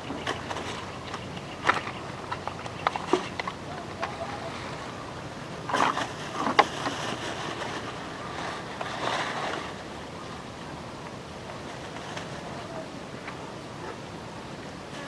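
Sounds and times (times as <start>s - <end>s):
steady outdoor hiss: 0.0s - 15.0s
water splashing and sloshing: 0.0s - 15.0s.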